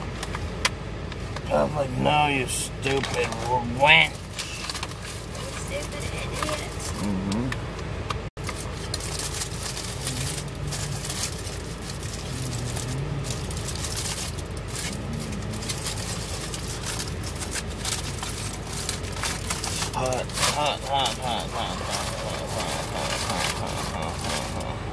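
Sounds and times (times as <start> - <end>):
steady low rumble: 0.0 - 24.9
rustling and scraping handling noise: 2.8 - 7.0, 8.4 - 24.7.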